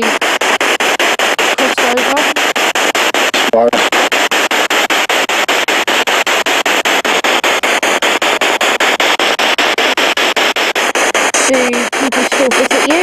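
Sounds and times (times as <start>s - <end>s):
radio static chopping: 0.0s - 13.0s.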